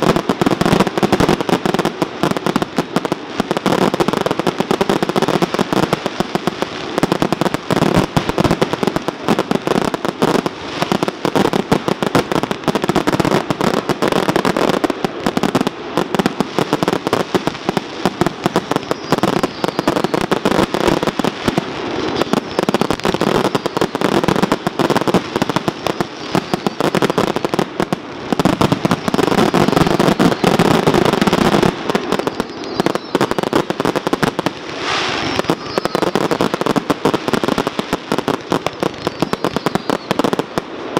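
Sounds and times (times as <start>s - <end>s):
fireworks cracks and bangs: 0.0s - 40.9s.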